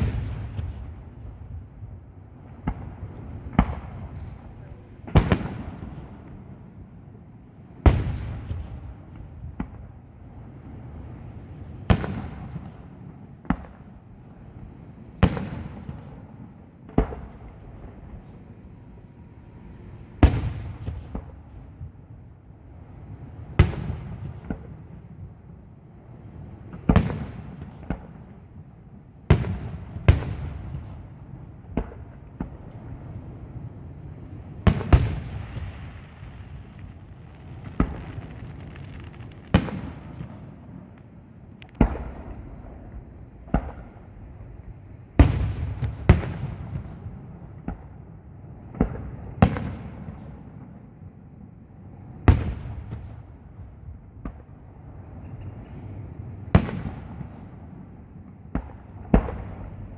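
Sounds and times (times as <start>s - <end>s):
firework bangs with rumbling echo: 0.0s - 6.8s, 7.8s - 10.8s, 11.8s - 14.1s, 15.2s - 18.3s, 20.2s - 22.4s, 23.0s - 25.6s, 26.6s - 50.8s, 52.2s - 55.7s, 56.5s - 59.9s.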